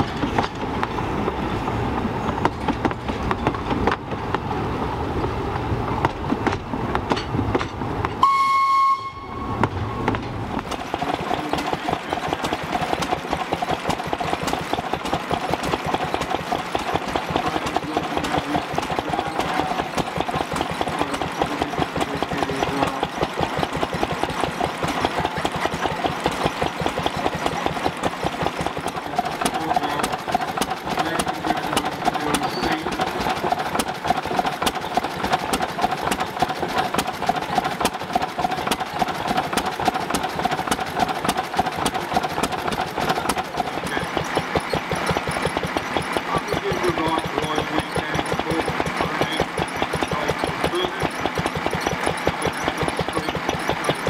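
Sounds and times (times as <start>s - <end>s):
stationary engine knocking: 0.0s - 4.8s, 9.6s - 54.0s
water pump: 10.4s - 54.0s.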